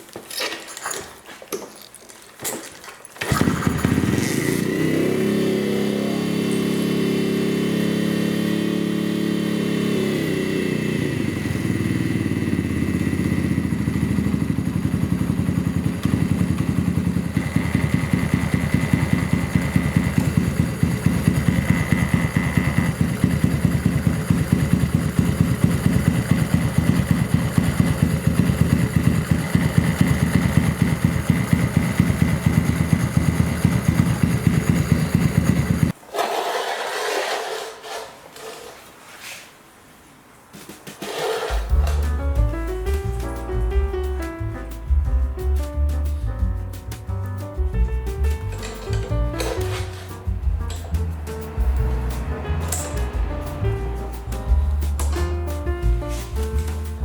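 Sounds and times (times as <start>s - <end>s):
motorcycle engine starting and idling: 2.5s - 39.4s, 40.6s - 57.0s
clutch noise: 3.2s - 38.0s, 40.9s - 44.9s, 46.9s - 57.0s.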